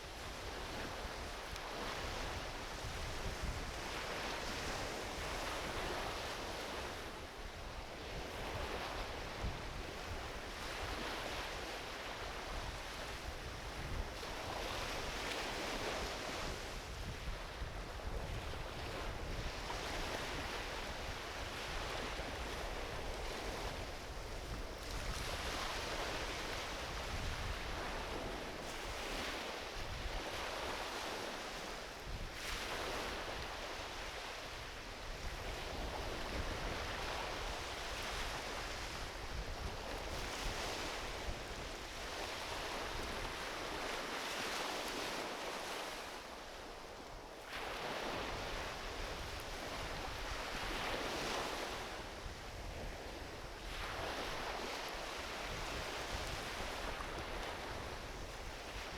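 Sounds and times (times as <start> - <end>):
ocean waves washing onto beach: 0.0 - 58.9.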